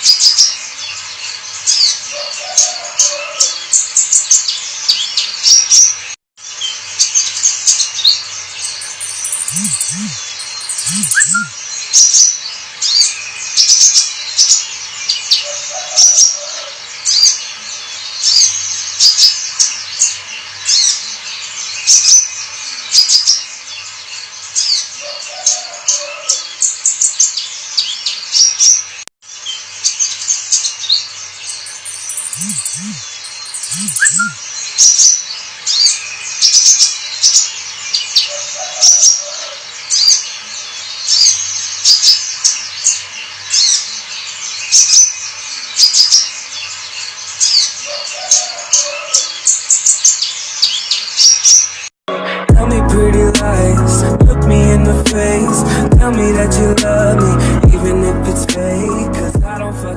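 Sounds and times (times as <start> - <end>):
bird twittering song: 0.0 - 51.9.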